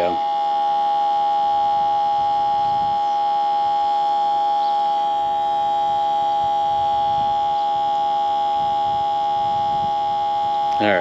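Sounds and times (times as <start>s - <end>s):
pump whining: 0.0s - 11.0s.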